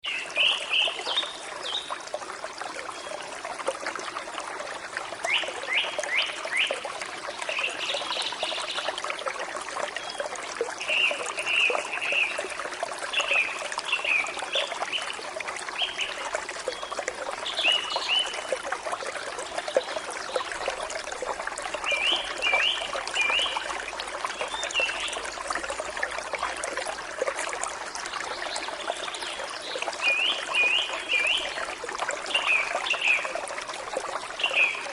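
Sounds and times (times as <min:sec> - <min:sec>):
stream trickling over stones: 0:00.0 - 0:34.9.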